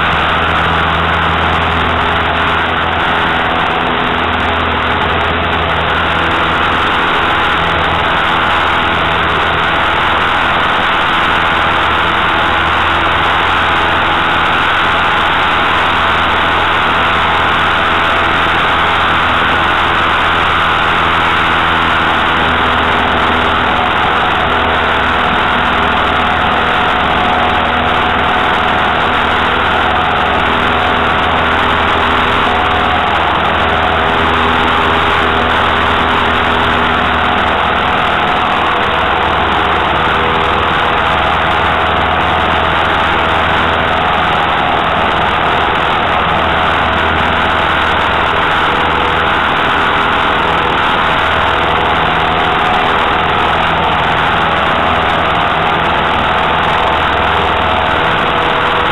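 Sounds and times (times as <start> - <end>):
plane engine and propeller running: 0.0 - 58.9.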